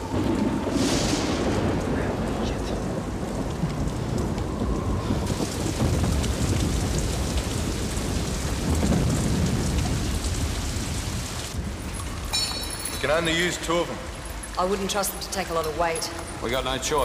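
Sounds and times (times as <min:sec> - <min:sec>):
heavy rain-like rushing: 0:00.0 - 0:17.0.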